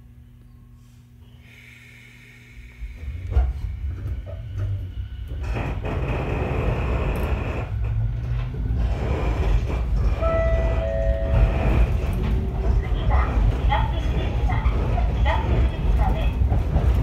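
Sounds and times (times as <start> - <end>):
train wheels rumbling on rail: 2.8 - 17.0.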